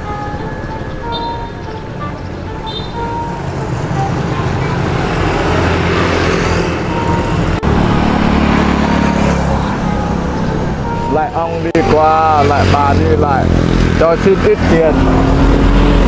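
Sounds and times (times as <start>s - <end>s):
vehicle passing on highway: 0.0s - 16.0s.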